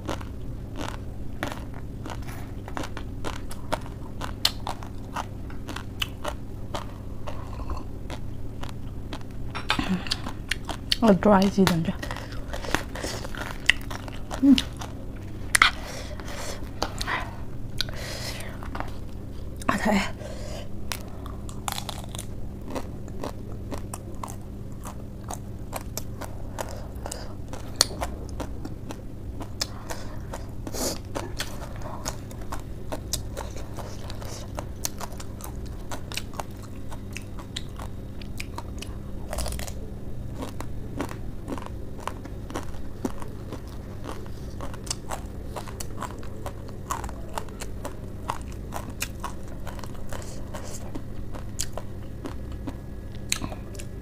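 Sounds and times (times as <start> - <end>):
crunching and chewing: 0.0 - 54.0
faint steady hum: 0.0 - 54.0.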